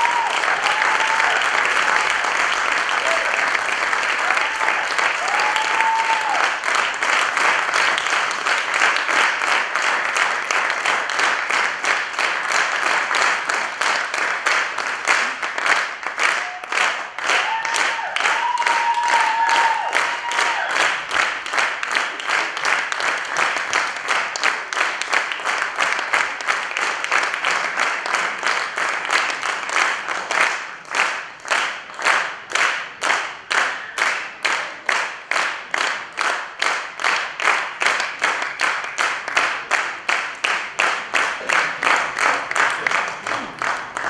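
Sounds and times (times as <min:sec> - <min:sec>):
audience applauding: 0:00.0 - 0:44.0.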